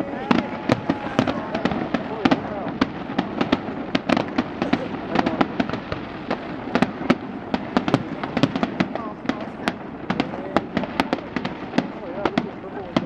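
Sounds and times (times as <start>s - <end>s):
background rumble: 0.0s - 13.0s
fireworks bangs and crackles: 0.0s - 13.0s.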